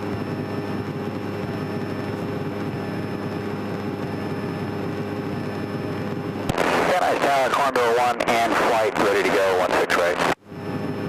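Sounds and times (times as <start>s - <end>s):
small airplane engine droning: 0.0s - 11.0s.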